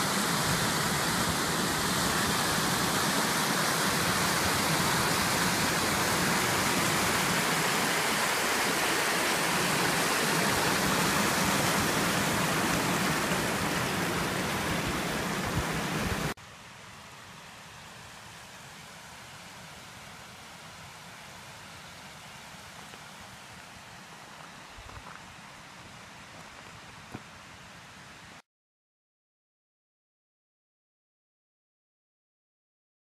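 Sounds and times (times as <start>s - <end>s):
faint hiss: 0.0s - 28.4s
running water rushing: 0.0s - 28.4s.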